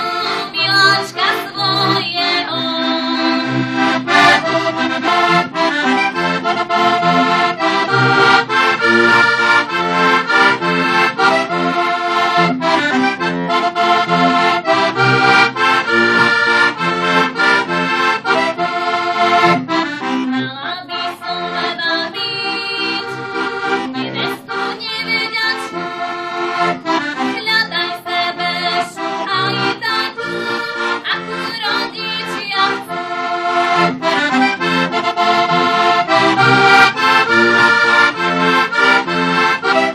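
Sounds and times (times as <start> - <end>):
button accordion folk tune: 0.0 - 39.9.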